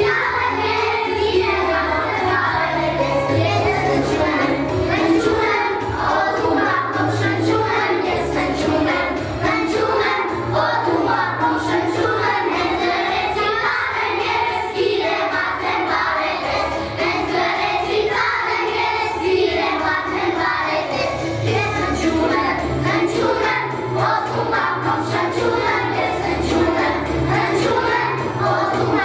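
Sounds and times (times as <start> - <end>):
children singing: 0.0 - 29.0
instrumental accompaniment: 0.0 - 29.0.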